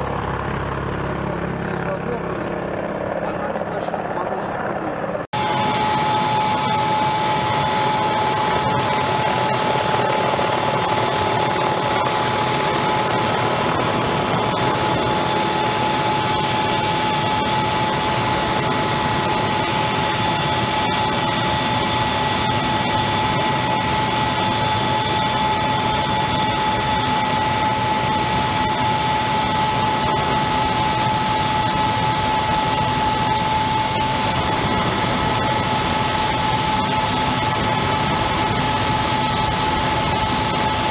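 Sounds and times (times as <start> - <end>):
helicopter engines and rotors: 0.0 - 40.9
high engine whine: 0.0 - 40.9.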